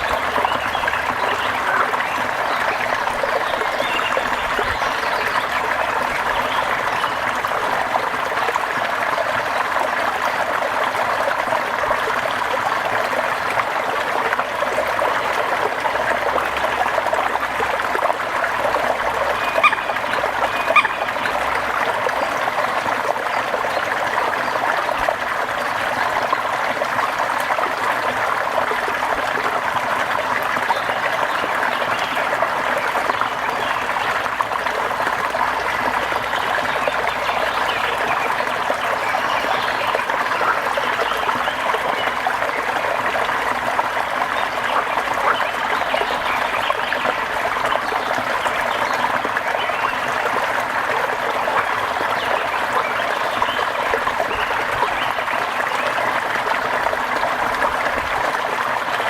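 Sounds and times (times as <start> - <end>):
trickling water: 0.0 - 59.0.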